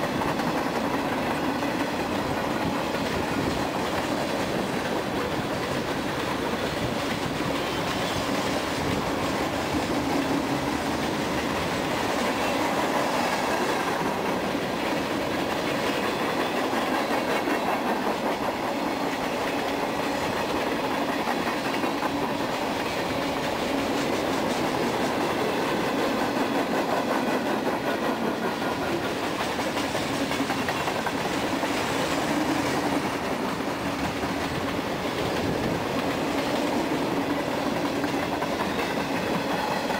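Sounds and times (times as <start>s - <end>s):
freight train cars rolling past: 0.0s - 39.9s
train wheels clacking on rail joints: 0.0s - 39.9s.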